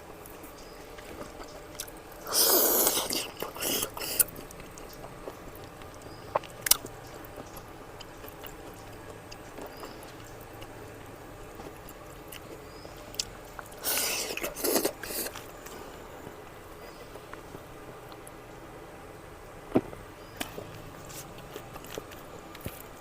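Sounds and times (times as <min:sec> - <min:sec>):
person chewing: 0:00.3 - 0:18.4, 0:19.7 - 0:22.9.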